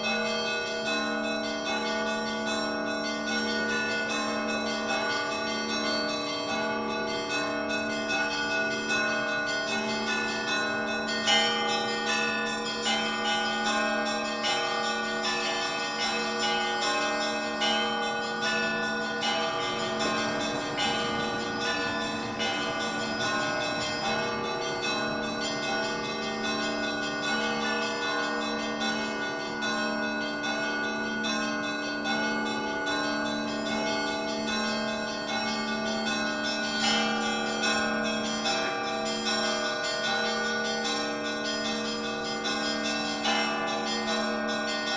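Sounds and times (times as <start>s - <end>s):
higher church bells pealing: 0.0s - 44.9s
low church bell: 0.0s - 44.9s.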